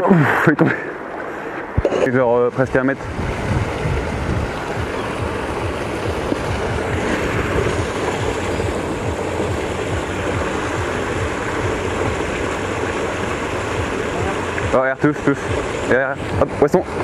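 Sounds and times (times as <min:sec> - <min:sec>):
river water rushing through sluice: 0:00.0 - 0:17.0
wind buffeting microphone: 0:00.0 - 0:17.0.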